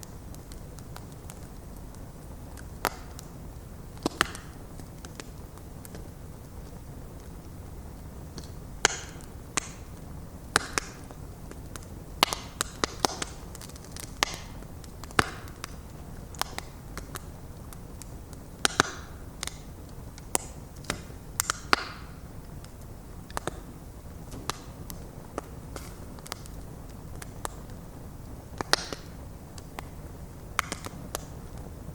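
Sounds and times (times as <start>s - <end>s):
low rumble of flames: 0.0s - 31.9s
wood fire crackling: 0.0s - 31.9s.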